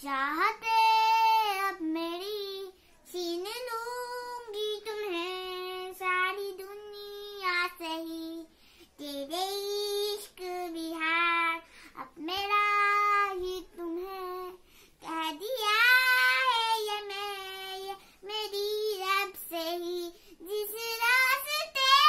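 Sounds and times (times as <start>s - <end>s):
girl singing unaccompanied: 0.0s - 22.0s.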